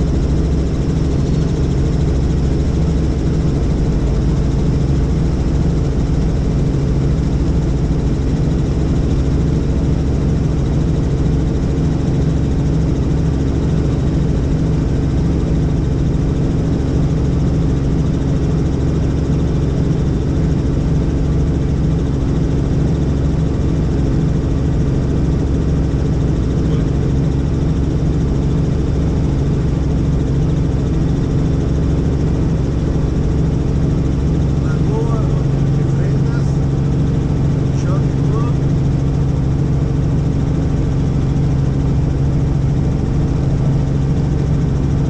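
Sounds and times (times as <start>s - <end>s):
helicopter in flight: 0.0s - 45.0s.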